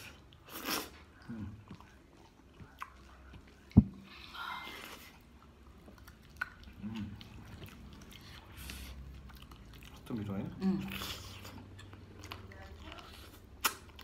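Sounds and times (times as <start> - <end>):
chewing and mouth sounds: 0.0 - 14.0.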